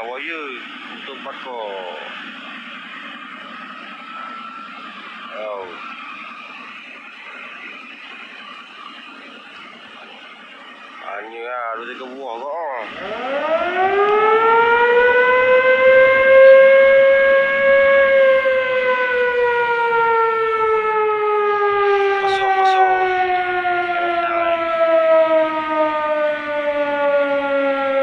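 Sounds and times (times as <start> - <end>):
warning siren wailing: 0.0 - 28.0.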